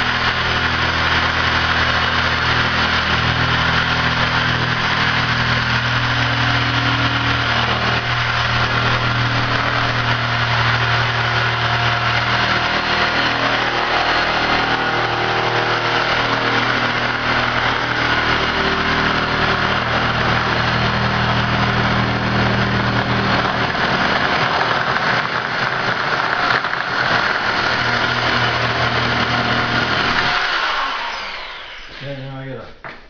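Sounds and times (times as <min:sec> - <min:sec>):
electric shear cutting plastic pipe: 0:00.0 - 0:32.1.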